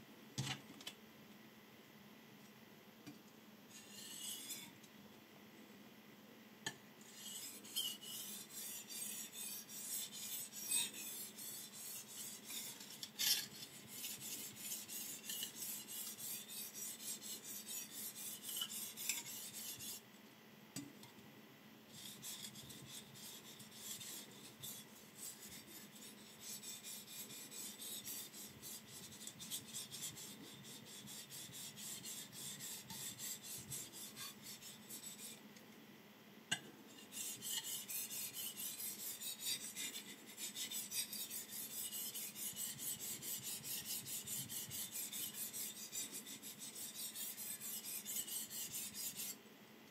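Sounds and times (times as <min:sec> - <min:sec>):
knife scraping on whetstone: 0:03.7 - 0:04.8, 0:07.0 - 0:20.0, 0:21.9 - 0:35.4, 0:36.9 - 0:49.4.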